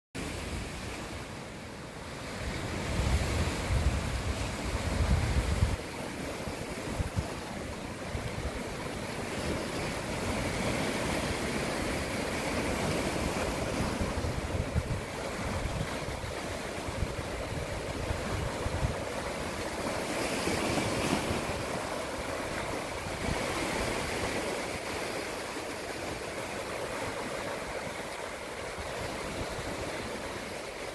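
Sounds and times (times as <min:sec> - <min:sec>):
waves breaking over rocks: 0:00.2 - 0:30.9
wind buffeting microphone: 0:02.2 - 0:30.8.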